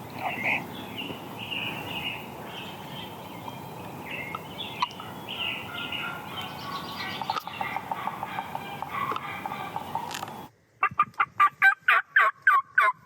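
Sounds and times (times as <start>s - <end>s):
lower evenly spaced bird notes: 0.0s - 10.8s
songbirds chirping: 0.0s - 10.8s.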